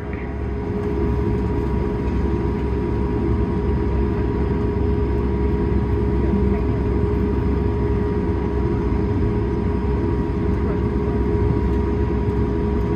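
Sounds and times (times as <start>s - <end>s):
jet engines idling in cabin: 0.0s - 12.9s.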